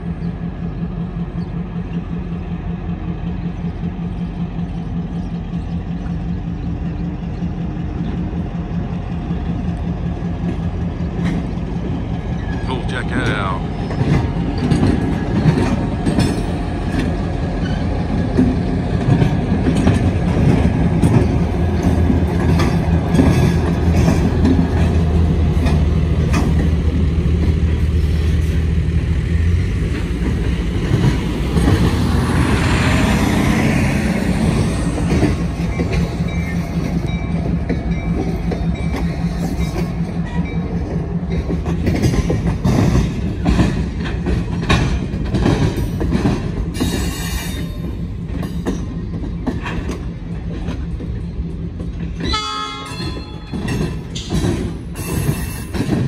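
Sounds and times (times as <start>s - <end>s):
locomotive engine humming: 0.0s - 56.0s
train wheels clacking on rail joints: 0.0s - 56.0s.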